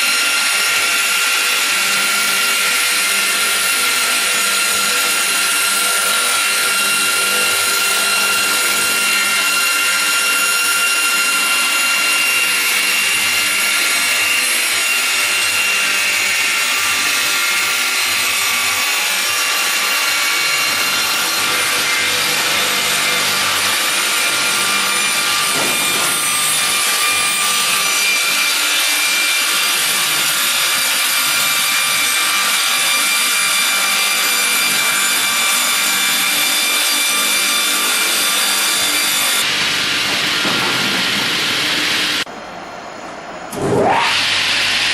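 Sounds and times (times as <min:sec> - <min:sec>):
sawmill machine sawing wood: 0:00.0 - 0:42.3.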